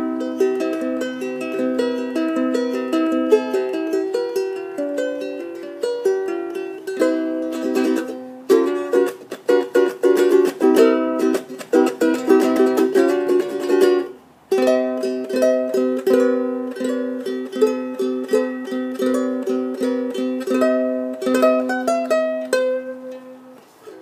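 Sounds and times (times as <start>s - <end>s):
ukulele strumming: 0.0s - 24.0s.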